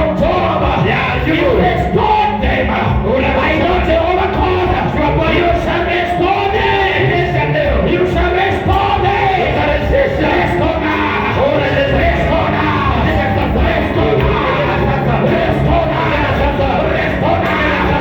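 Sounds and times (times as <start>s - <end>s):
congregation singing: 0.0s - 18.0s
sustained bass notes: 0.0s - 18.0s.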